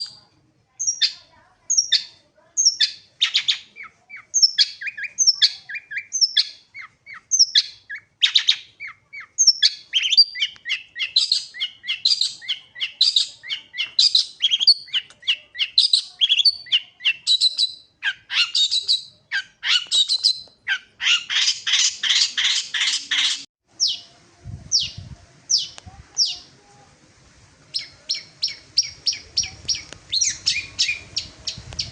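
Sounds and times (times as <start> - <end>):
shrike chirping song: 0.8 - 26.5, 27.6 - 31.9.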